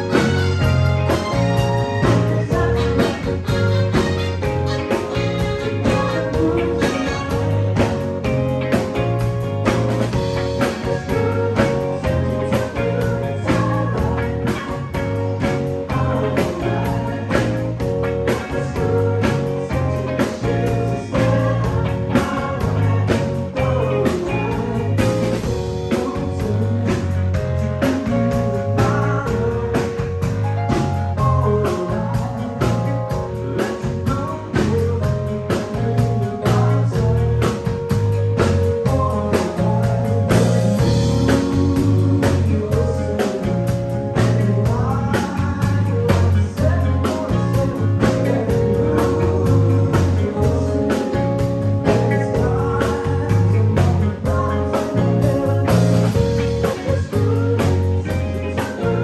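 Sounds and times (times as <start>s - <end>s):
electric guitar: 0.0s - 59.0s
live blues-rock band: 0.0s - 59.0s
steady drum beat: 0.0s - 59.0s.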